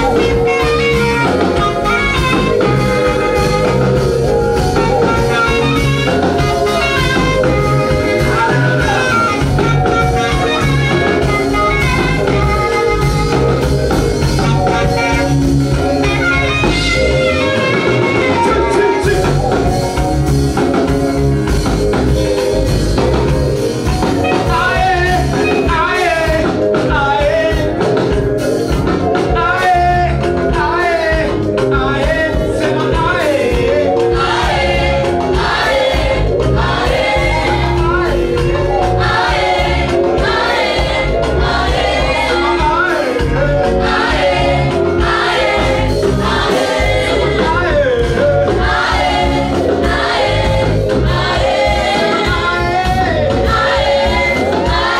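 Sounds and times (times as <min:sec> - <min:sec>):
choir singing: 0:00.0 - 0:20.2, 0:29.4 - 0:54.9
live band with drums and bass: 0:00.0 - 0:54.9.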